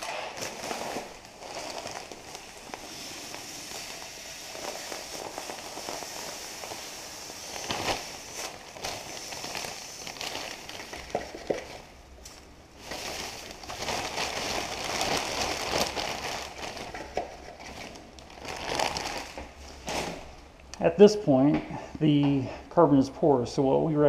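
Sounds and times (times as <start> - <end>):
plastic bag crinkling: 0.0 - 20.4
granules pouring with crackling hiss: 0.0 - 20.6.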